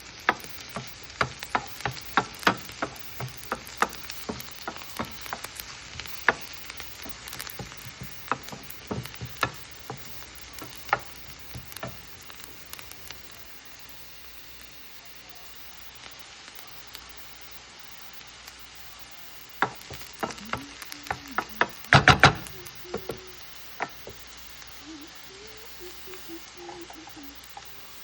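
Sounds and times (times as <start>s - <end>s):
food sizzling in hot oil: 0.0s - 28.0s
oil crackling and popping: 0.0s - 28.0s.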